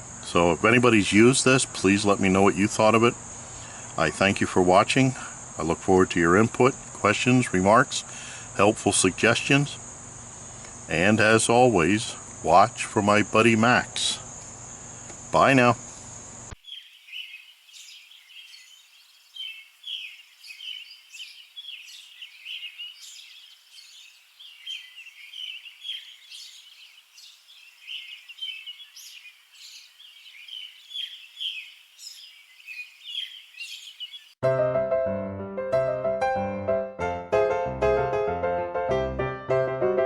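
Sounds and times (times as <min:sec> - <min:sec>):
small birds chirping: 0:00.0 - 0:34.4.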